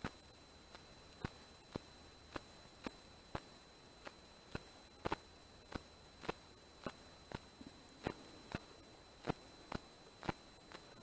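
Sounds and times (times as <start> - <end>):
faint high-pitched whine: 0.0 - 11.0
faint sharp ticks: 0.0 - 11.0.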